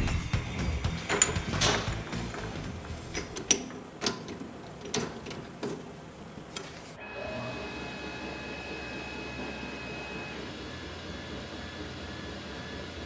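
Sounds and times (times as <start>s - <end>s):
lathe spindle whining: 0.4s - 13.0s.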